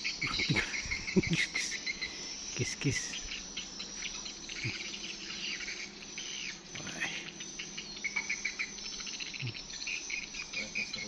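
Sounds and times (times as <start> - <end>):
continuous high hiss: 0.0 - 11.0.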